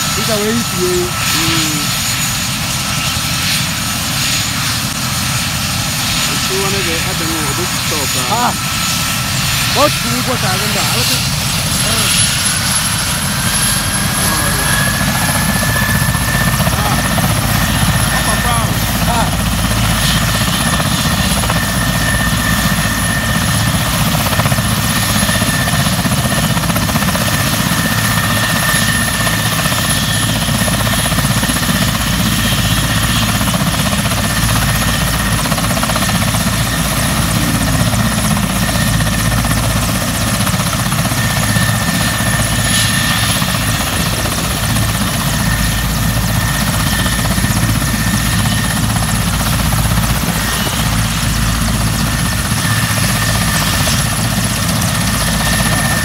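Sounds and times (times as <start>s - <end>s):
helicopter engine whine: 0.0s - 56.0s
helicopter rotor noise: 0.0s - 56.0s.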